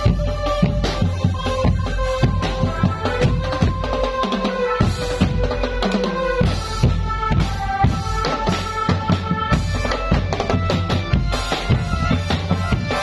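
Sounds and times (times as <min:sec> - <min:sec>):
held melody line: 0:00.0 - 0:13.0
marching snare drum: 0:00.0 - 0:13.0
tom and bass drums beating: 0:00.0 - 0:13.0.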